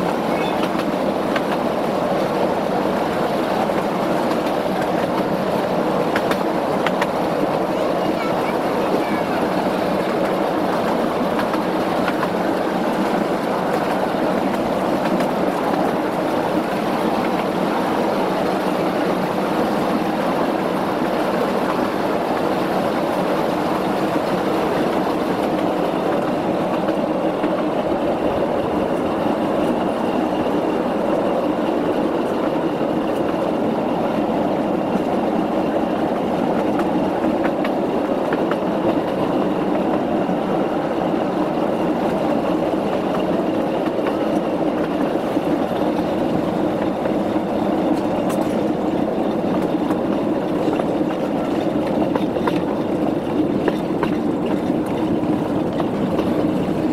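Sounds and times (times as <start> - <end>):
wheels rolling on track: 0.0 - 56.9.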